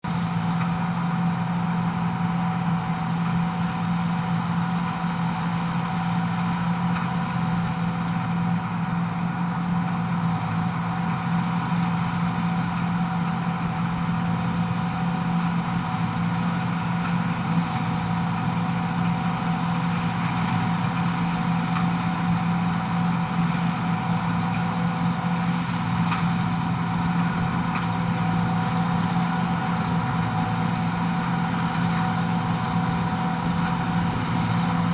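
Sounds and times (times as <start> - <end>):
combine harvester running: 0.0 - 34.9.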